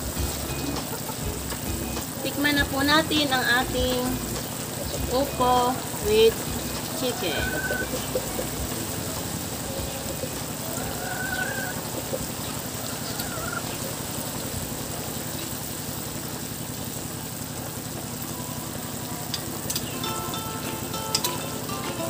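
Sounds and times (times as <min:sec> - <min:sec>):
broth simmering in a wok: 0:00.0 - 0:22.0.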